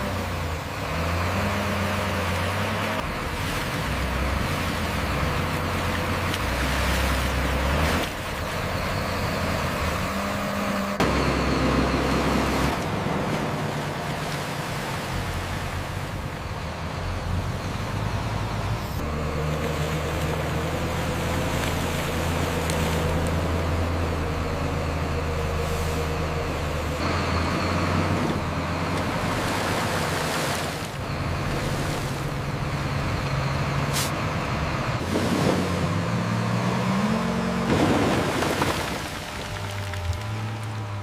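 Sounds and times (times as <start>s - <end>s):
heavy truck engine running: 0.0s - 41.0s.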